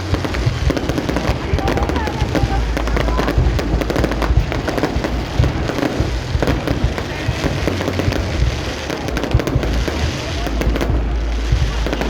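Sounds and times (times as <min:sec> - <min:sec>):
fireworks crackling and popping: 0:00.0 - 0:12.0
low rumble: 0:00.0 - 0:12.0.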